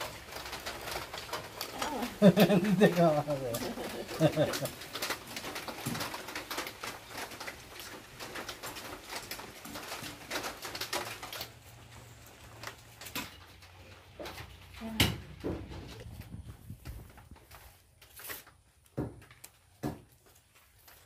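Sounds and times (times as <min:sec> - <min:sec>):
dry bark crackling and rustling: 0:00.0 - 0:21.0.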